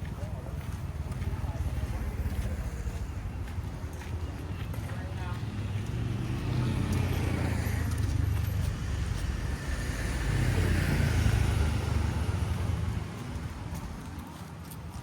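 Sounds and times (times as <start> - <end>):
vehicle passing by: 1.1 - 14.1.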